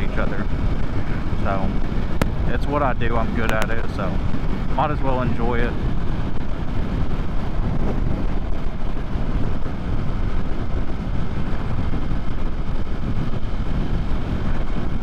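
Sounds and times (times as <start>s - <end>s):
road noise: 0.0s - 15.0s
wind rushing on microphone: 0.0s - 15.0s.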